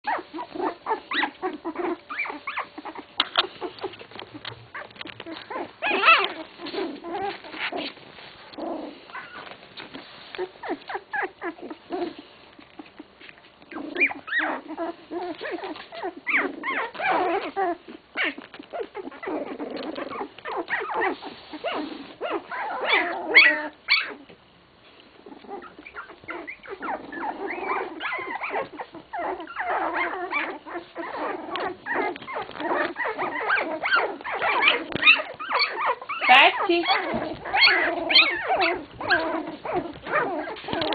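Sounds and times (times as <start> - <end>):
puppies whimpering: 0.0 - 24.4, 25.2 - 40.9.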